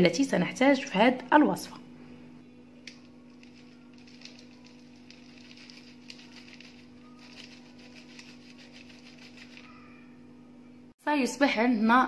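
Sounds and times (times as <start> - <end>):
steady low hum: 0.9 - 11.0.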